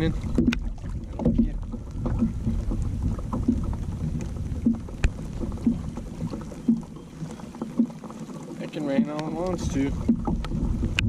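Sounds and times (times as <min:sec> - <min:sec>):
water slapping kayak hull: 0:00.0 - 0:11.0
wind buffeting microphone: 0:00.0 - 0:11.0.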